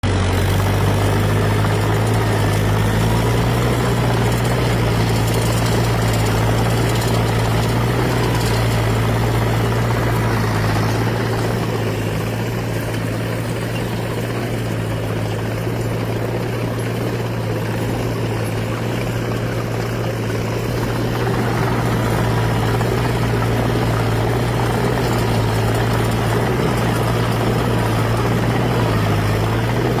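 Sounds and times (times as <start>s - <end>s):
rotary tiller working soil: 0.0s - 30.0s
tractor diesel engine running: 0.0s - 30.0s.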